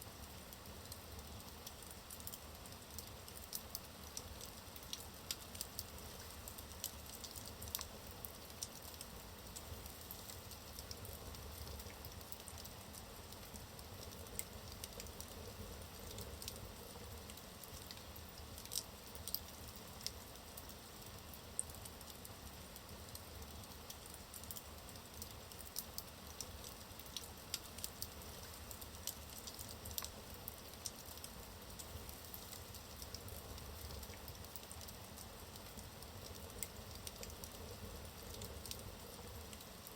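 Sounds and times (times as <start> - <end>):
fire crackling and popping: 0.1 - 39.9.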